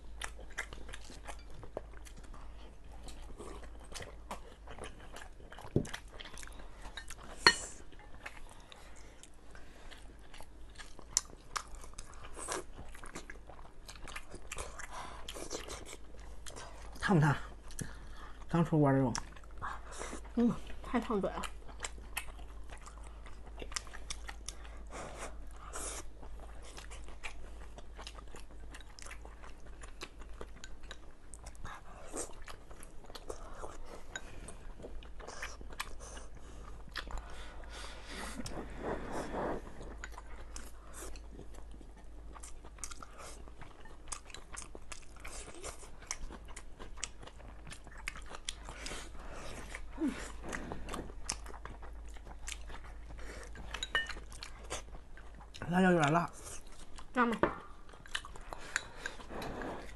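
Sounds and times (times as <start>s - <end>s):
people chewing and lip smacking: 0.0s - 59.9s.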